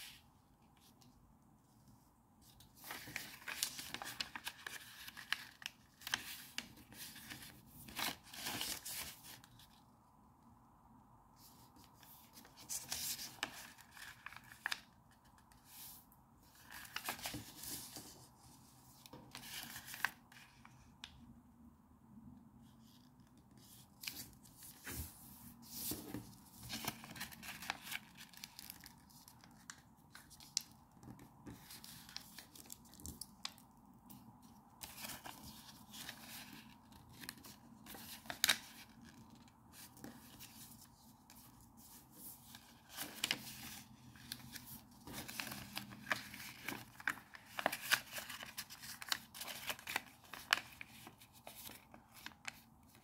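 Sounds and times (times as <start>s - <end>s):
paper rustling and crinkling: 2.4s - 9.8s, 11.4s - 20.8s, 22.8s - 53.0s.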